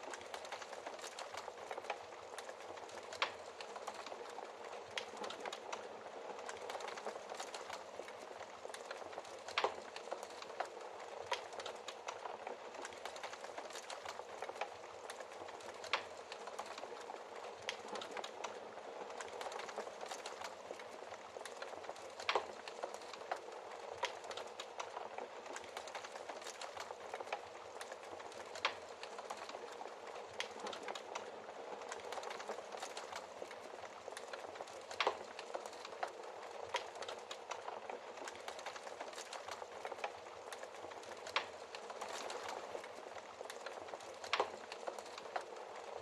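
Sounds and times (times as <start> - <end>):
wood fire burning: 0.0 - 46.0.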